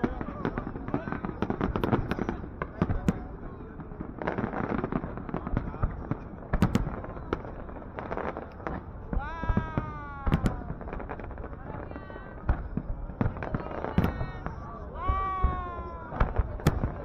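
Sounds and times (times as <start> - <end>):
crowd voices: 0.0 - 17.0
fireworks bangs and crackles: 0.0 - 17.0.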